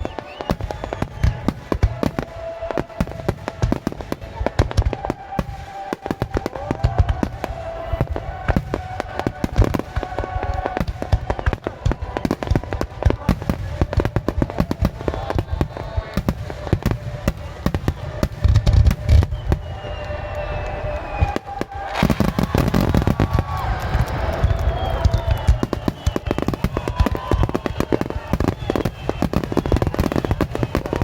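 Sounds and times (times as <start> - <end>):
falling firework whistle: 0.0 - 31.0
fireworks bangs and crackles: 0.0 - 31.0.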